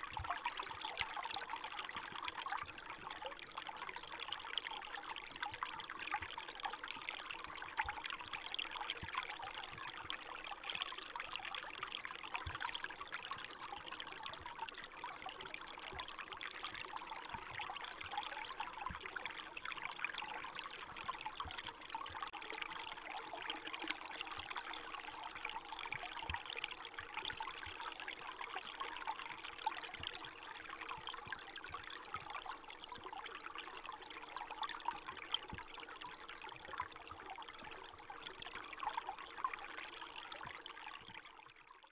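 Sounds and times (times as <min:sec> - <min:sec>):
stream water trickling: 0:00.0 - 0:41.9.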